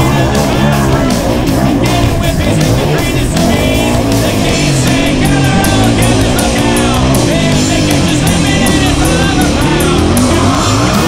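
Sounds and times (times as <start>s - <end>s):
punk rock song: 0.0s - 11.0s.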